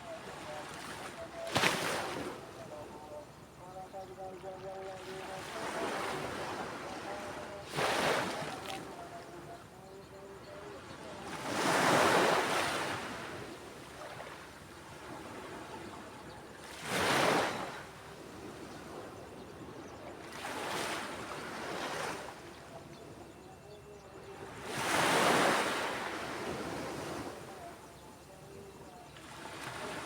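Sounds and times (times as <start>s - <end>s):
ocean waves breaking on beach: 0.0s - 23.4s, 24.4s - 30.0s.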